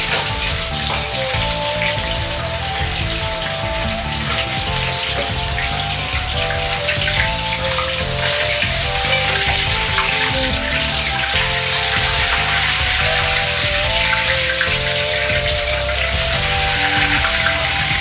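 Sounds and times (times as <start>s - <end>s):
background music: 0.0s - 18.0s
food sizzling in hot oil: 0.0s - 18.0s.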